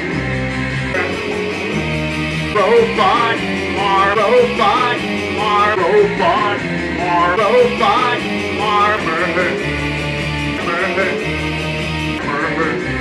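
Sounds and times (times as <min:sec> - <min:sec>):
electric guitar playing chords: 0:00.0 - 0:13.0.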